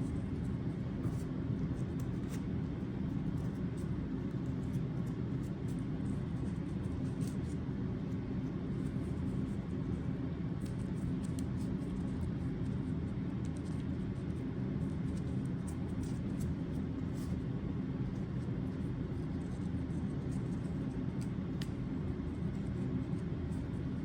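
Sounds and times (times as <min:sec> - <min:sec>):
low hum with faint tones: 0:00.0 - 0:24.0.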